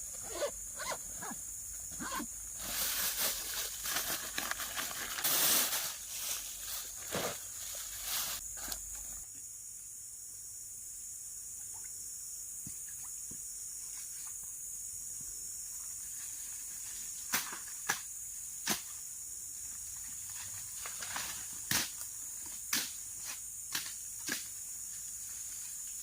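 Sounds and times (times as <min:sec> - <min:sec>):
crickets chorus: 0:00.0 - 0:26.0.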